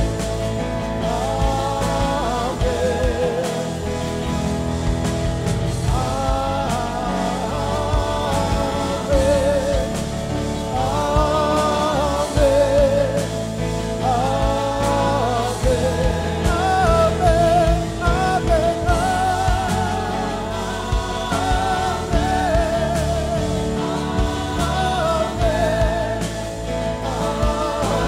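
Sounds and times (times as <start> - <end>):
bass: 0.0 - 28.0
electric guitar: 0.0 - 28.0
keyboard: 0.0 - 28.0
man singing lead: 0.0 - 28.0.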